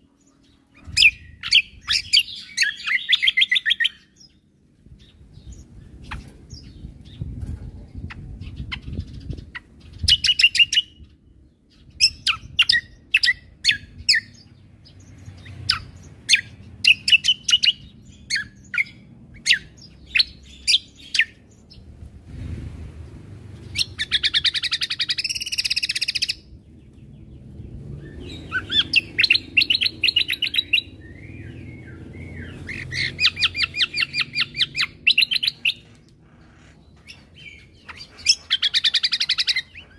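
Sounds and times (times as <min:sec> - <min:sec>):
bird singing high chirps: 0:00.0 - 0:21.9, 0:23.6 - 0:39.9.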